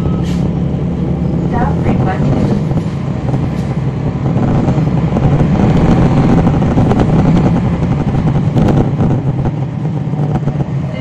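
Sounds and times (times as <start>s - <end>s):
diesel bus engine drone: 0.0s - 11.0s.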